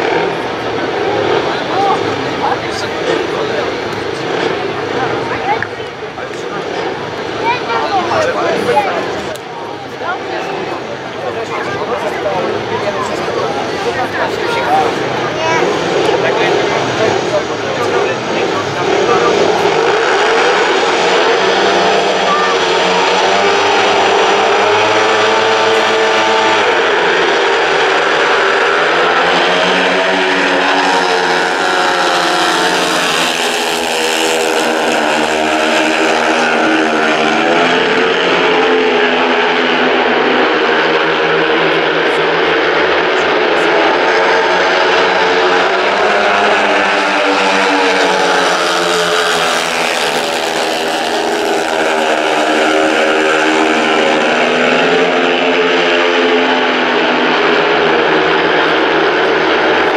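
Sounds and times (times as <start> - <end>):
motorcycles racing: 0.0 - 59.9.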